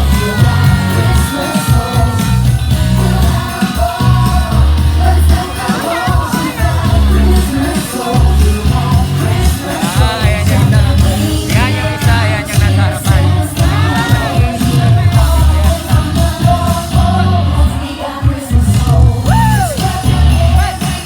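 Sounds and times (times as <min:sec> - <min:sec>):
pop song with singer: 0:00.0 - 0:21.0
steady bass beat: 0:00.0 - 0:21.0.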